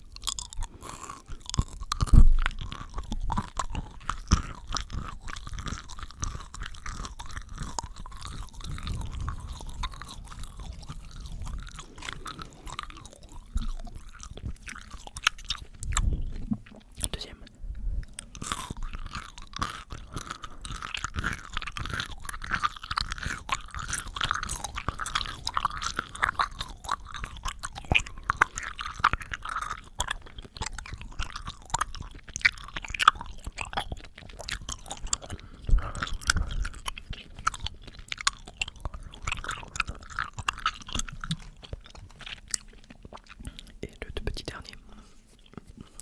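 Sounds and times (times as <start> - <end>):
mouth clicks and smacks: 0.0 - 46.0.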